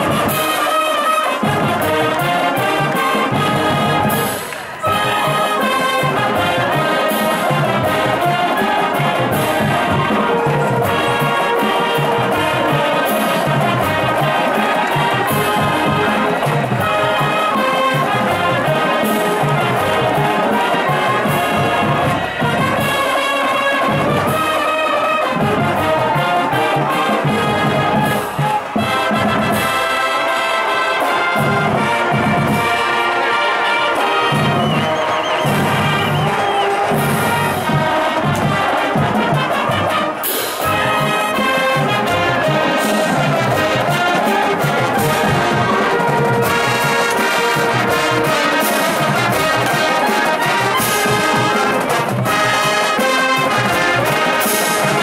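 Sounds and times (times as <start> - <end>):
brass melody: 0.0 - 55.0
marching band playing: 0.0 - 55.0.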